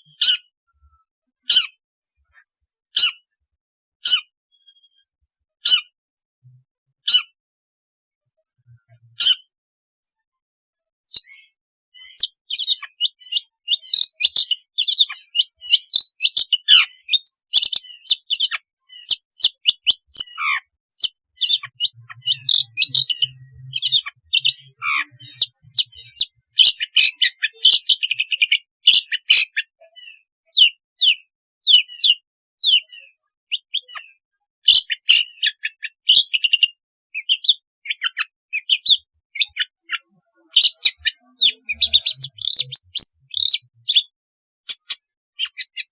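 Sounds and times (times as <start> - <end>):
bird chattering song: 0.0 - 0.5, 1.4 - 3.3, 4.0 - 6.0, 7.0 - 7.4, 8.7 - 10.2, 11.0 - 45.9.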